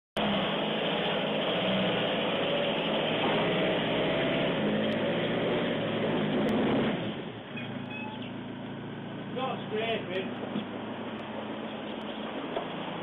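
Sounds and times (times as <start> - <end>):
van engine running: 0.2 - 13.0.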